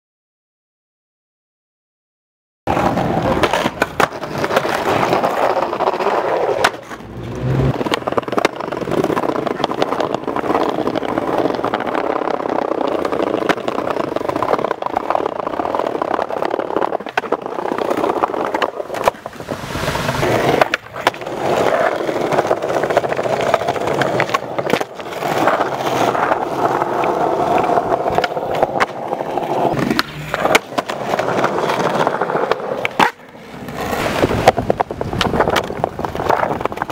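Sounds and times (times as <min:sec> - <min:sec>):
skateboard popping and landing: 0:02.7 - 0:36.9
skateboard wheels rolling on stone: 0:02.7 - 0:36.9.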